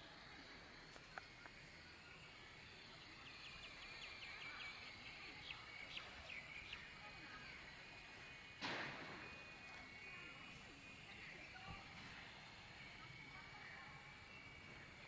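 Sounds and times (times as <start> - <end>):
rc helicopter high whine: 0.0 - 15.0.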